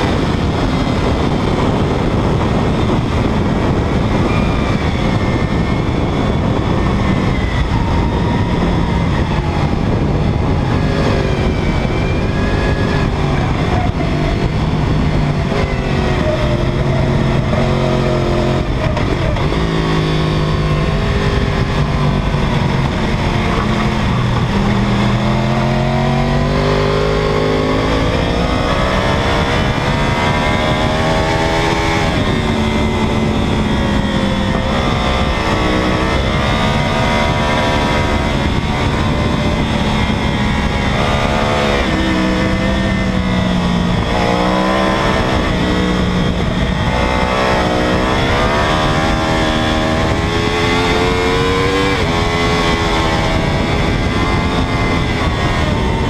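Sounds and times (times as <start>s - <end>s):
motorcycle engine revving through gears: 0.0s - 56.0s
wind rushing: 0.0s - 56.0s.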